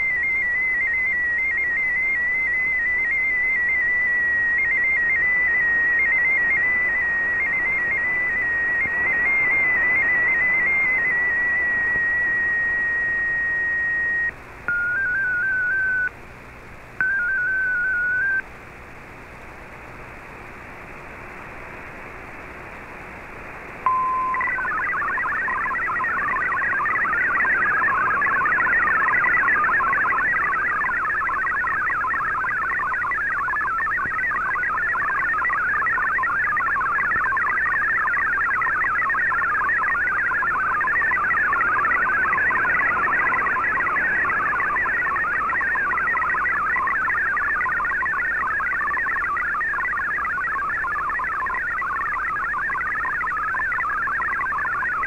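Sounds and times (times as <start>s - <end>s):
fast busy data warble: 0.0s - 16.1s, 23.9s - 55.0s
warbling digital data tones: 0.0s - 16.1s, 17.0s - 18.4s, 23.8s - 55.0s
steady radio tone: 0.0s - 16.2s, 17.0s - 18.4s, 23.8s - 55.0s
shortwave radio hiss: 0.0s - 55.0s.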